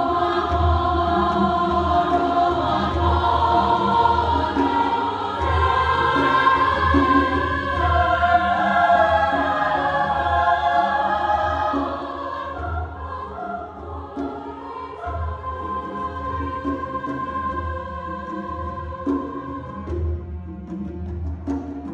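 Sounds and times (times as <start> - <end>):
women's choir singing: 0.0 - 20.2
cello accompaniment: 0.0 - 21.9.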